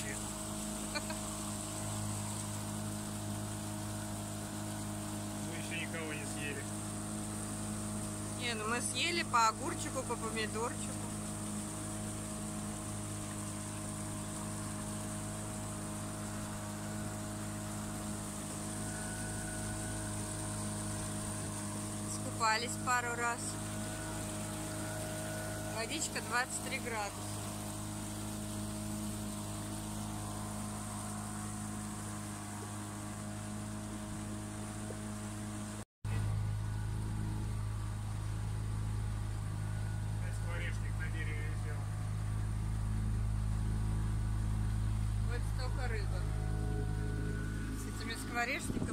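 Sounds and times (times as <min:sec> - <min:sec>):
boat motor humming: 0:00.0 - 0:48.9
wake wash: 0:00.0 - 0:48.9.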